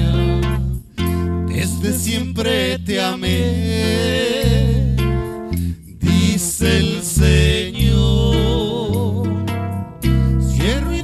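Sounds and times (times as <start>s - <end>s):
acoustic guitar: 0.0s - 11.0s
electric bass: 0.0s - 11.0s
person singing with vibrato: 0.0s - 11.0s.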